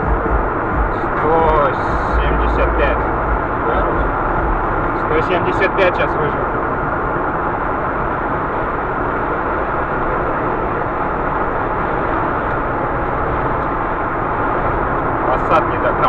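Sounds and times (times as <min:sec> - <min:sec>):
car driving at high speed: 0:00.0 - 0:16.0.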